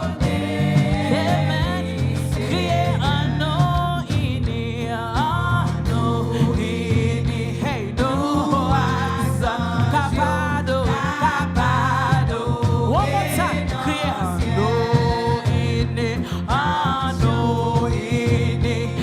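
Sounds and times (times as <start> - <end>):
gospel singing: 0.0 - 19.0
instrumental accompaniment: 0.0 - 19.0.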